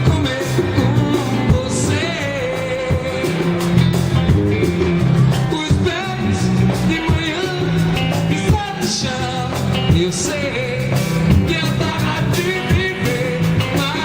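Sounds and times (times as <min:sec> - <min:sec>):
bass line: 0:00.0 - 0:14.0
drum hits: 0:00.0 - 0:14.0
live band playing reggae: 0:00.0 - 0:14.0.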